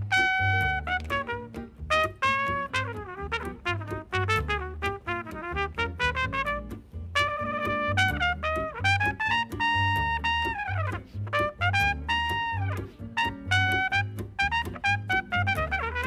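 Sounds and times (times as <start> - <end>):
plucked double bass: 0.0 - 16.0
strummed guitar chords: 0.0 - 16.0
trumpet playing jazz melody: 0.0 - 16.0.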